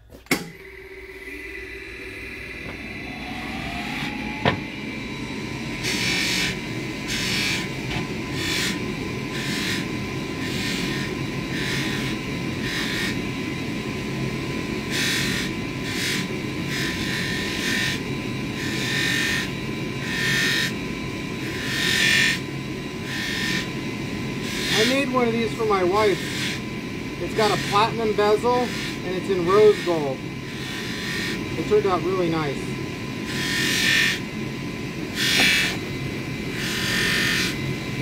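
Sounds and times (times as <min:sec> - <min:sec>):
polishing motor whining: 0:00.4 - 0:38.0
metal ring hissing on buffing wheel: 0:05.0 - 0:32.6, 0:33.2 - 0:34.3, 0:35.1 - 0:35.9, 0:36.5 - 0:37.6.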